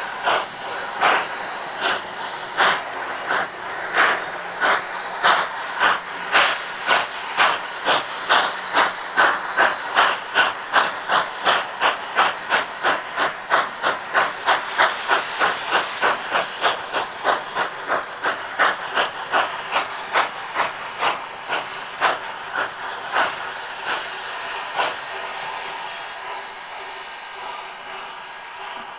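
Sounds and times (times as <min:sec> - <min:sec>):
steam locomotive chuffing: 0:00.0 - 0:28.9.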